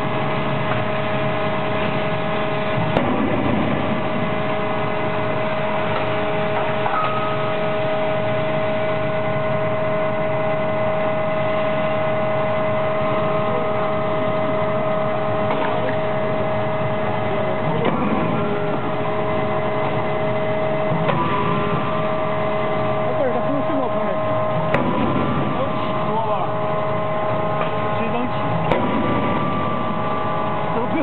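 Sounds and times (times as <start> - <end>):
constant whining tones: 0.0 - 31.0
forging machinery drone: 0.0 - 31.0.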